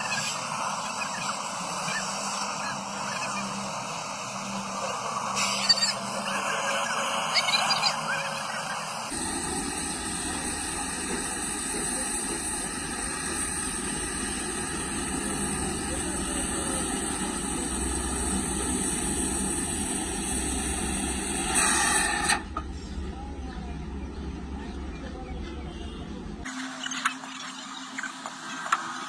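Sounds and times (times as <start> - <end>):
machine running with low rumble: 0.0 - 27.4.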